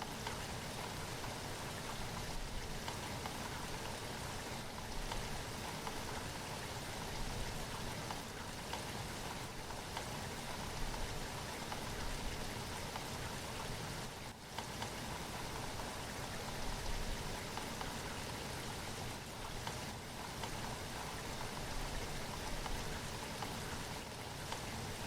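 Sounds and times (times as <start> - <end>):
raindrops pattering on a surface: 0.0 - 25.0.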